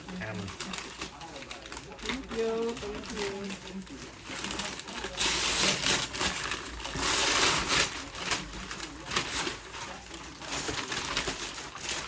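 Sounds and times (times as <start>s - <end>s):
wrapping paper tearing and crumpling: 0.0s - 12.0s.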